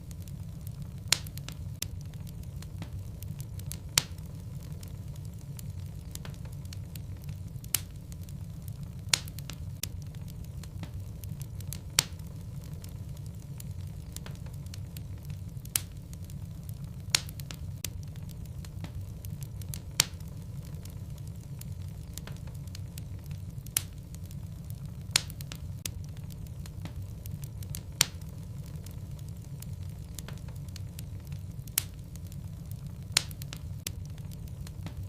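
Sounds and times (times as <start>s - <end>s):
burning logs popping: 0.0s - 35.0s
fire flames rumbling: 0.0s - 35.0s.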